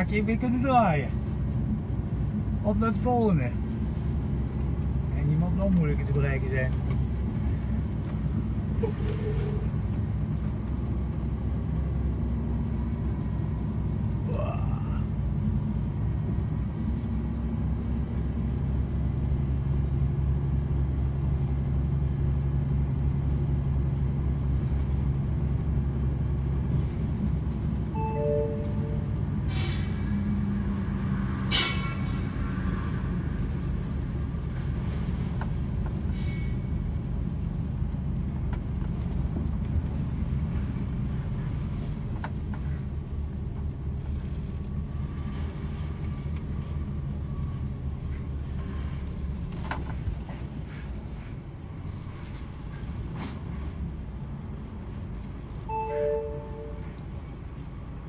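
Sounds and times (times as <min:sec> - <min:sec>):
truck diesel engine droning: 0:00.0 - 0:58.0.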